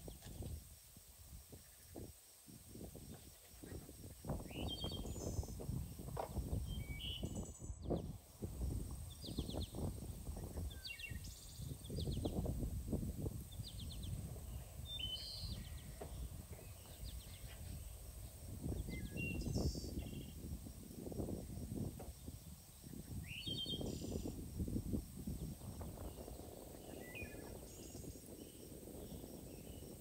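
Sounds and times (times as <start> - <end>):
small birds chirping: 2.8 - 20.5, 22.1 - 24.5, 25.2 - 30.0.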